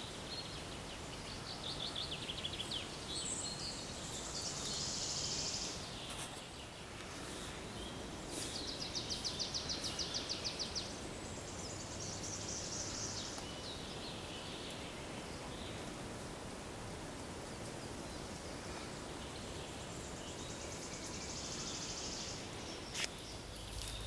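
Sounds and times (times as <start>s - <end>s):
songbirds singing: 0.0s - 24.0s
steady background hiss: 0.0s - 24.0s.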